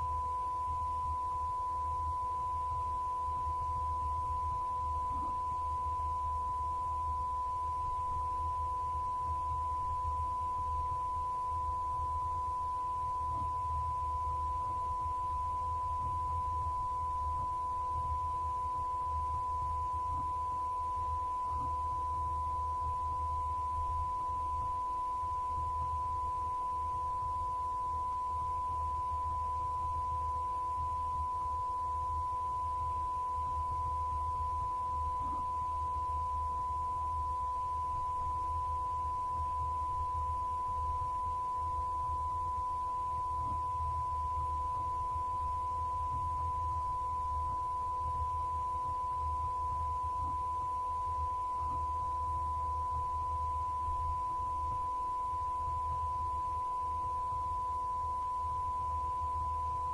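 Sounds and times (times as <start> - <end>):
faint low hum: 0.0 - 59.9
steady electronic sine tone: 0.0 - 59.9.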